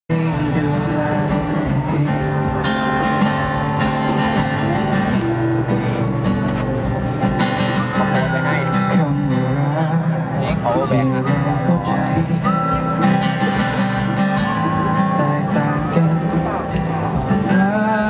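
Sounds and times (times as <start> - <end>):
acoustic guitar through speakers: 0.1 - 18.0.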